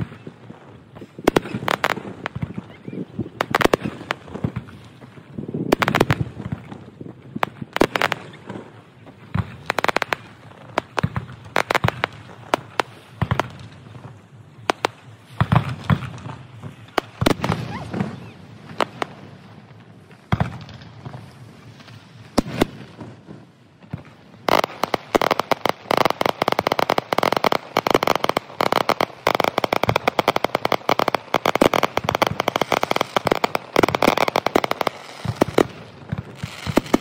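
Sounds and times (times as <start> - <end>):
fireworks bangs: 0.0 - 37.0
fireworks crackling pops: 0.0 - 37.0.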